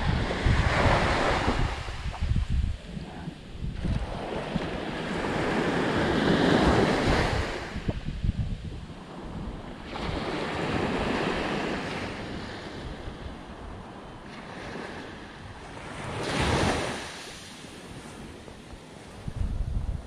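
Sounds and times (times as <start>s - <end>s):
small waves breaking on sand: 0.0s - 8.1s, 8.9s - 19.3s
wind buffeting microphone: 0.0s - 20.0s.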